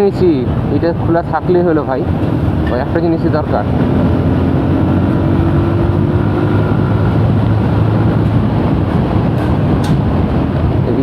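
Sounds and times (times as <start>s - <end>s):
wind rushing over microphone: 0.0s - 11.0s
motorcycle engine running: 2.1s - 11.0s.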